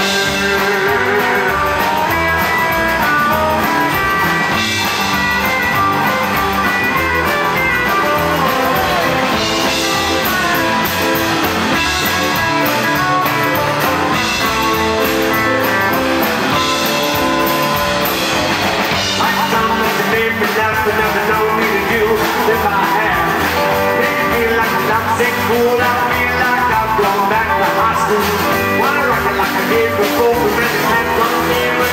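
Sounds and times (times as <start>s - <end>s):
electric guitar lead: 0.0s - 31.9s
live rockabilly band instrumental: 0.0s - 31.9s.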